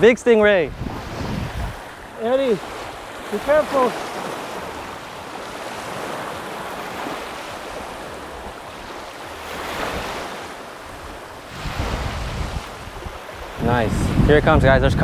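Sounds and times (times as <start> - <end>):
small waves washing on shore: 0.0 - 15.0
wind buffeting microphone: 0.0 - 15.0.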